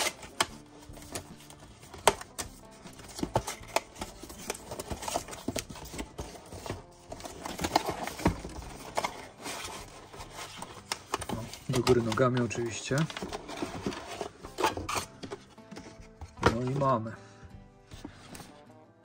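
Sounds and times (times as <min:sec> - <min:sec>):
cardboard box being opened: 0:00.0 - 0:16.7.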